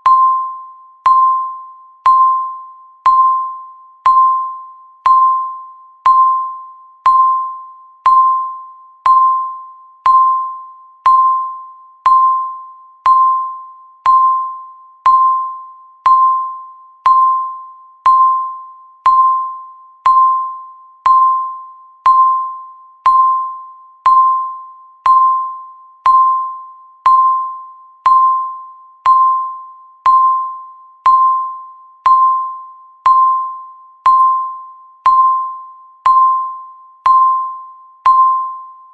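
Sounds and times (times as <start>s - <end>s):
timer beeps: 0.0s - 38.9s.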